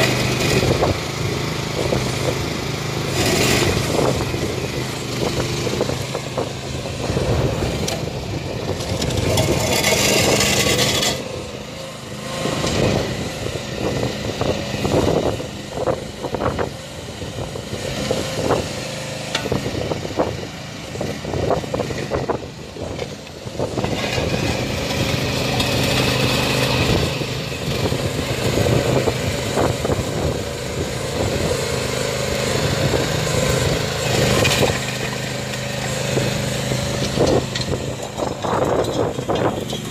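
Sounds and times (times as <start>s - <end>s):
small engine running: 0.0s - 39.9s
tracks scraping gravel: 0.0s - 39.9s.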